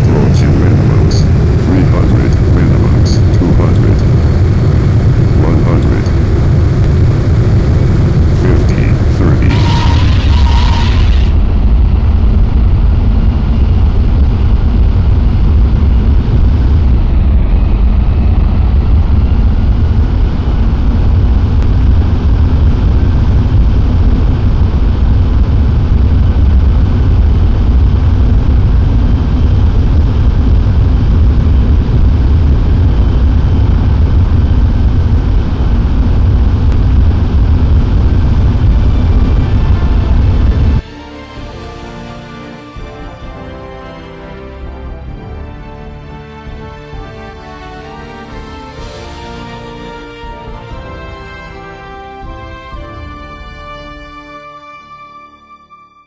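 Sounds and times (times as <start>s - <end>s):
low rumble with hiss: 0.0s - 54.3s.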